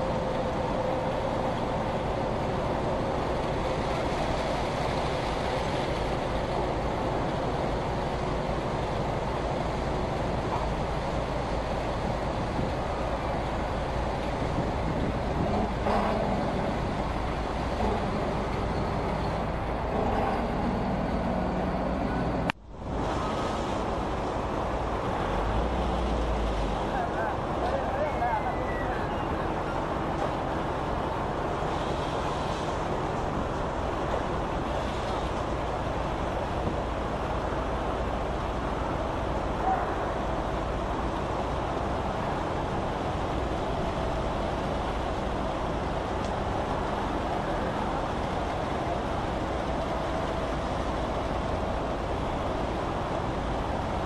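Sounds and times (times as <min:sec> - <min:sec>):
bus wash brushes and water spray: 0:00.0 - 0:54.0
low machinery rumble: 0:00.0 - 0:54.0.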